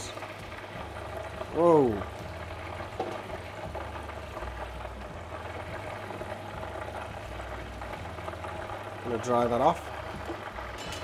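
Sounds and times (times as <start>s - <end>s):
hot oil bubbling and crackling: 0.0s - 11.0s.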